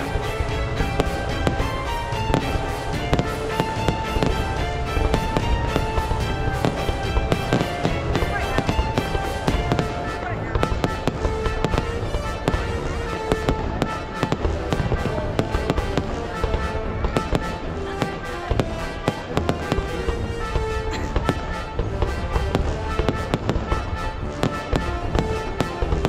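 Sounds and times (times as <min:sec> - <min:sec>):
fireworks bangs and crackles: 0:00.0 - 0:26.0
music with held notes: 0:00.0 - 0:26.0.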